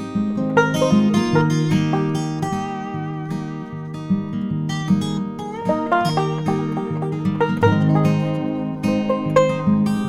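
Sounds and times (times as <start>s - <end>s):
bluegrass acoustic string music: 0.0s - 10.0s.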